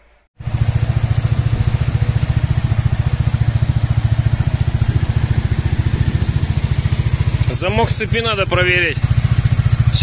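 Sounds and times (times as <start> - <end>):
motorcycle engine idling: 0.4 - 10.0.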